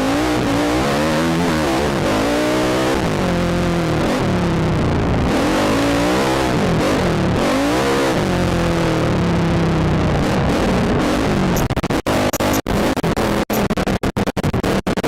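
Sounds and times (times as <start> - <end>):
quad engine revving: 0.0 - 13.7.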